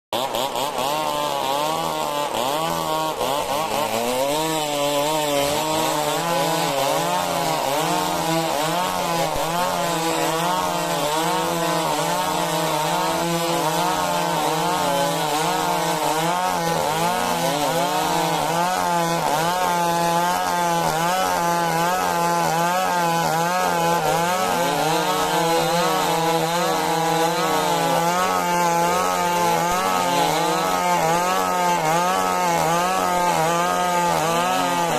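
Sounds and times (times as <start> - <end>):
chainsaw cutting log: 0.1 - 34.9.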